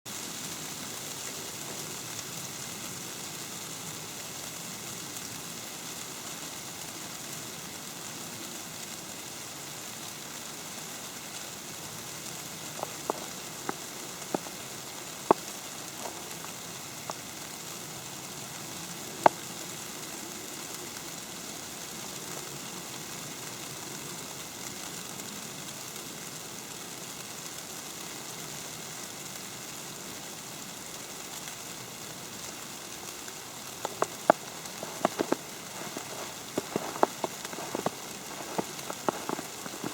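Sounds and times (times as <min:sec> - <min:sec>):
snow hissing on umbrella: 0:00.1 - 0:39.9.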